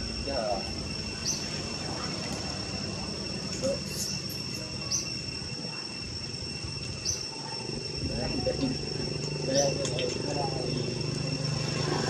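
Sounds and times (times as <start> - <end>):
high-pitched insect drone: 0.0 - 12.0
lower droning tone: 0.0 - 12.0.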